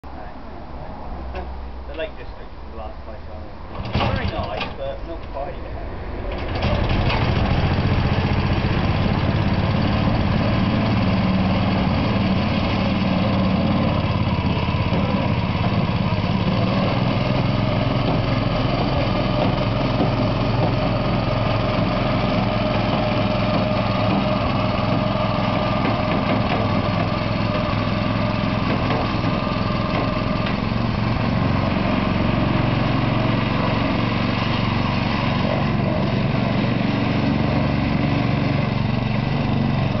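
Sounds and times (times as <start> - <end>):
small petrol engine running: 6.4 - 40.0.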